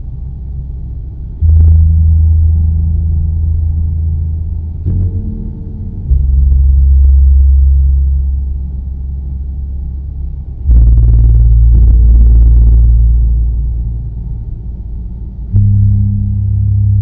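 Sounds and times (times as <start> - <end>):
deep sustained bass tones: 0.0 - 17.0.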